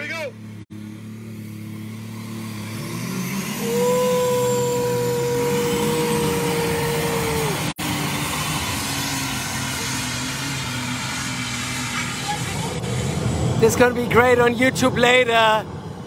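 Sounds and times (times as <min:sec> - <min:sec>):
tractor engine at full throttle: 0:00.0 - 0:16.0
high whine: 0:00.4 - 0:16.0.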